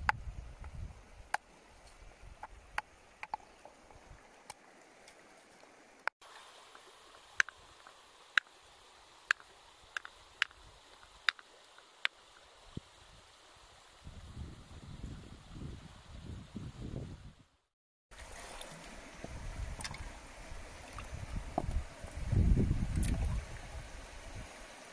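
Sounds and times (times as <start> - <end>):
faint stream running: 0.0 - 17.4, 18.1 - 24.9.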